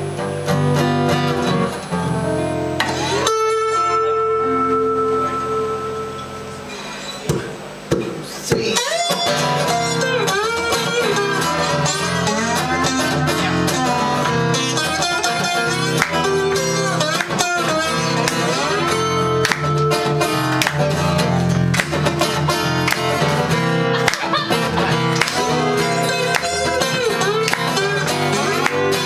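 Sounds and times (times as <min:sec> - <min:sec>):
acoustic guitars strumming: 0:00.0 - 0:29.0.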